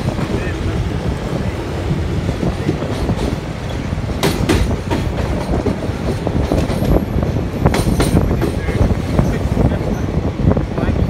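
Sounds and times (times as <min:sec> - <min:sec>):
wheels clacking over rail joints: 0:00.0 - 0:10.2
train wheels rumbling on rails: 0:00.0 - 0:11.0.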